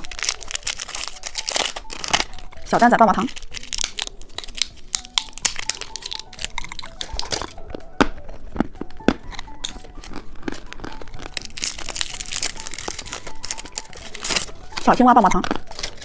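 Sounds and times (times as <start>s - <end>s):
wrapper crinkling and tearing: 0.0s - 16.0s.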